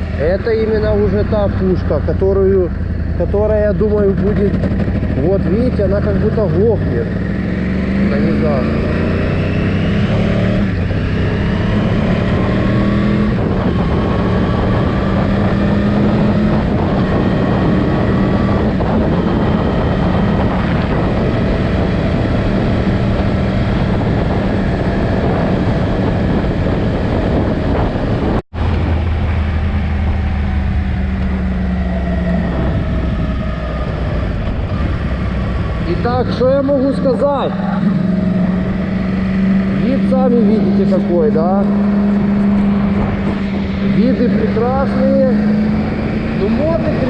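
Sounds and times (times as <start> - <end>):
heavy wind noise: 0.0 - 47.0
motorcycle engine running: 0.0 - 47.0.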